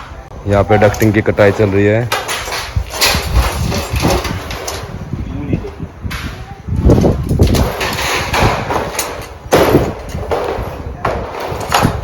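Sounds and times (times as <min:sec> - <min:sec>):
sheet metal bangs and thuds: 0:01.1 - 0:05.1, 0:06.0 - 0:12.0.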